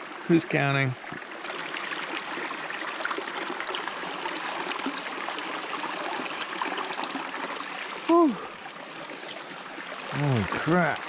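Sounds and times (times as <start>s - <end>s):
stream babbling over rocks: 0.0s - 11.0s.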